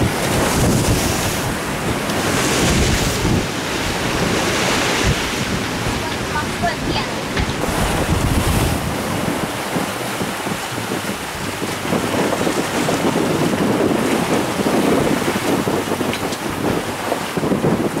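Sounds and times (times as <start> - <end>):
sea water splashing along hull: 0.0 - 18.0
wind buffeting microphone: 0.0 - 18.0.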